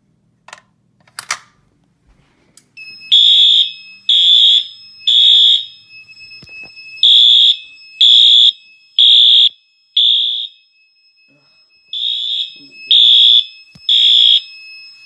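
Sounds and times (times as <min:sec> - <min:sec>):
fire alarm horn blasts: 0:02.8 - 0:15.0.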